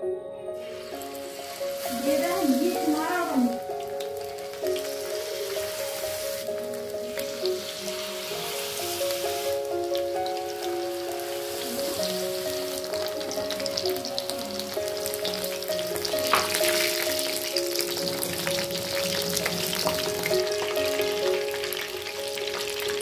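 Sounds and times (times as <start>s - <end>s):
background music: 0.0s - 23.0s
prawns deep-frying in oil: 0.6s - 23.0s.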